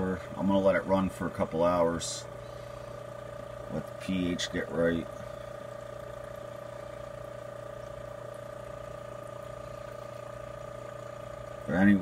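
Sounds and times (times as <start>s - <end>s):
aquarium air pump humming: 0.0s - 12.0s.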